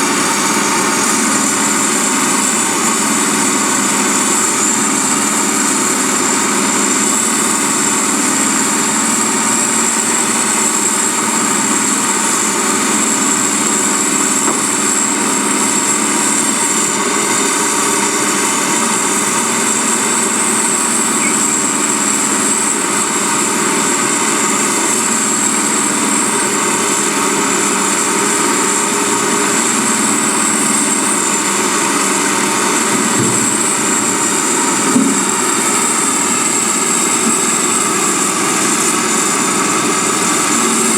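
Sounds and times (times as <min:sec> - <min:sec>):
backhoe engine hum: 0:00.0 - 0:40.9.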